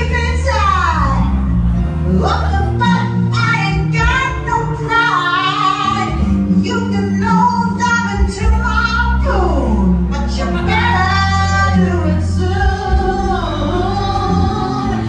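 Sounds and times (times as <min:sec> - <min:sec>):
woman singing: 0:00.0 - 0:01.3, 0:02.1 - 0:15.0
instrumental backing with bass: 0:00.0 - 0:15.0.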